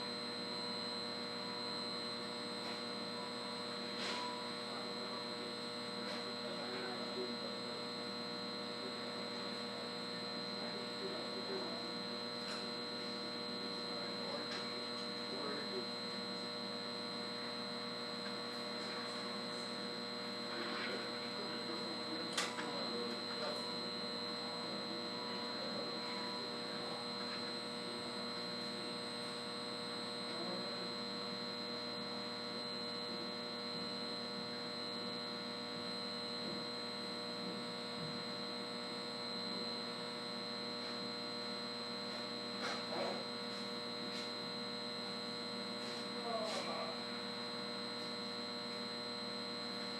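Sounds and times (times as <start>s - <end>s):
electrical hum: 0.0s - 49.9s
steady whining tones: 0.0s - 49.9s.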